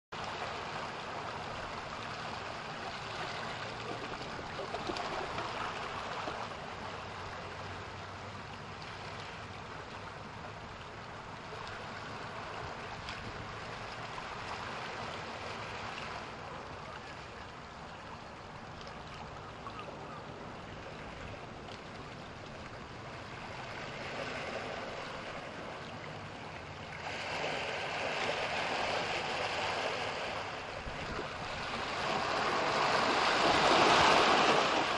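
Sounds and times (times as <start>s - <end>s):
ocean waves surging: 0.2s - 34.9s.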